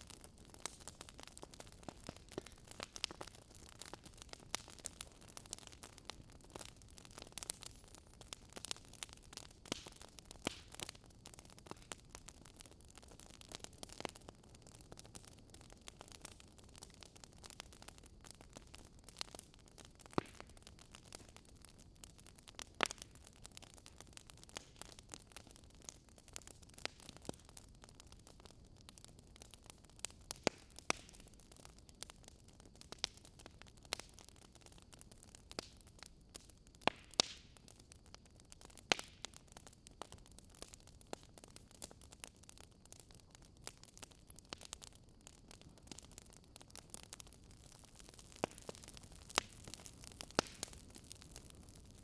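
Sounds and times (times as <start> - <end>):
fire popping: 0.0 - 52.0
wood fire crackling: 0.0 - 52.0.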